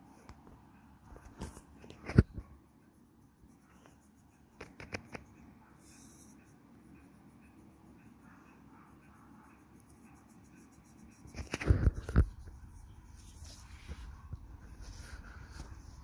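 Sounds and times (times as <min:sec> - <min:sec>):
scratchy stroke on paper: 0:01.2 - 0:16.0.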